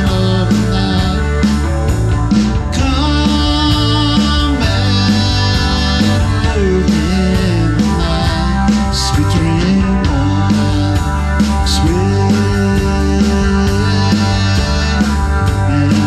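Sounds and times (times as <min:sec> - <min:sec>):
electric guitar bending notes: 0:00.0 - 0:16.0
live rock band: 0:00.0 - 0:16.0.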